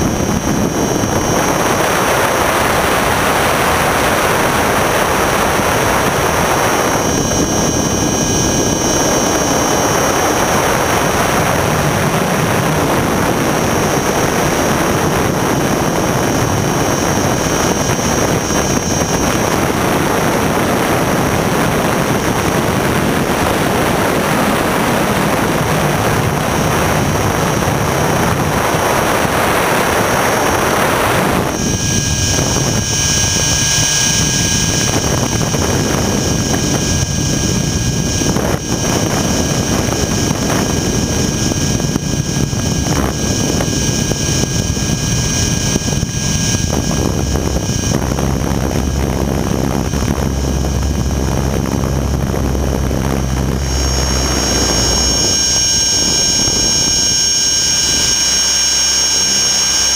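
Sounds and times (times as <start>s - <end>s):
helicopter rotor and wind rush: 0.0s - 59.9s
high motor whine: 0.0s - 59.9s.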